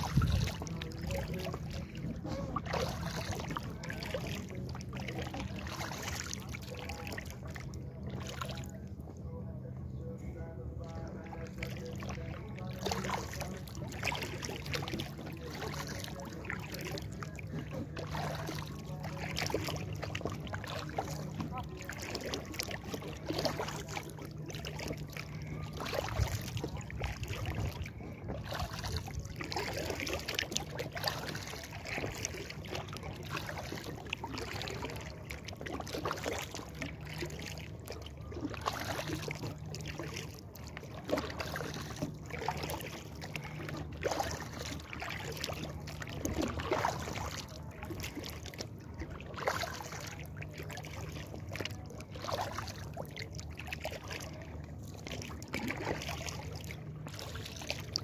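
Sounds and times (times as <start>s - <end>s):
water splashing from paddling: 0.0s - 9.2s, 10.8s - 58.0s.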